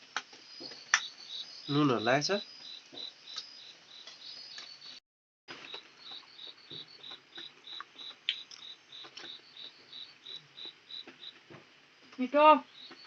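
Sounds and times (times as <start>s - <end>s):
insect chirping high-pitched: 0.1s - 5.0s, 5.6s - 11.5s, 12.2s - 13.0s.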